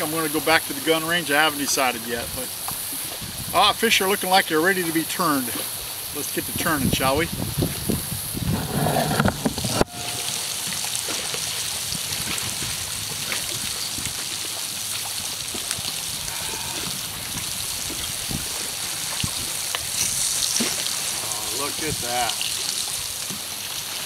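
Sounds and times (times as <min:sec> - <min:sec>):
fish sizzling in hot oil: 0:00.1 - 0:08.6, 0:09.6 - 0:24.0.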